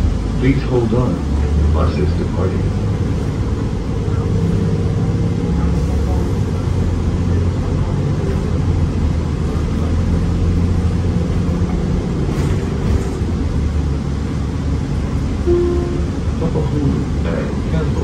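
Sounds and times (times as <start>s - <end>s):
bus engine drone: 0.0s - 18.0s
road noise: 0.0s - 18.0s.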